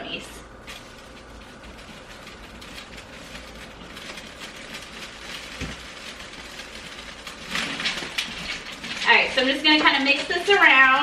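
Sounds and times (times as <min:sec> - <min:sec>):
seasoning shaker rattling: 0:00.6 - 0:11.0.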